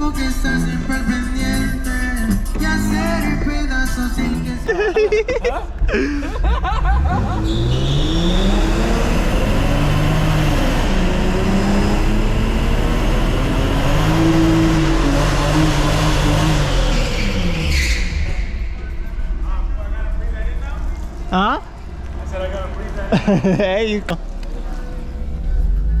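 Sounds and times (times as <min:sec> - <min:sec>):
car engine revving: 0:00.0 - 0:05.4, 0:06.4 - 0:26.0.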